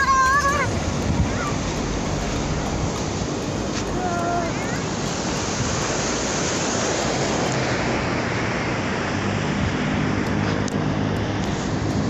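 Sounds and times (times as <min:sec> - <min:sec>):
low engine hum: 0:00.0 - 0:12.0
surf: 0:00.0 - 0:12.0
wind on microphone: 0:00.0 - 0:12.0.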